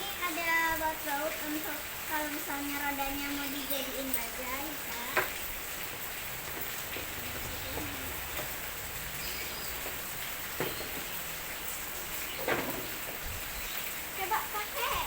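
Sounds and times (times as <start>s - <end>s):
rain-like hiss: 0.0s - 15.0s.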